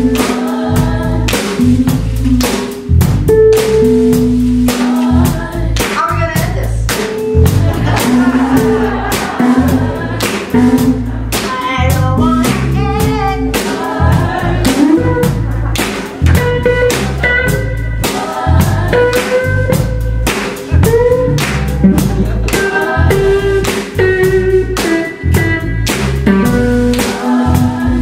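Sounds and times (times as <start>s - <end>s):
group of voices singing: 0.0s - 2.0s, 4.6s - 6.2s, 6.9s - 24.2s, 26.4s - 28.0s
electric guitar and bass: 0.0s - 5.8s, 6.6s - 28.0s
drum kit with cymbals: 0.0s - 28.0s.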